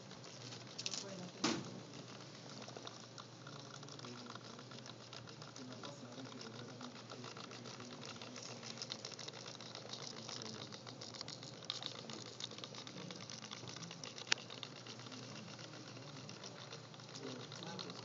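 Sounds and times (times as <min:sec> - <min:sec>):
servos whirring and chattering: 0:00.0 - 0:18.0.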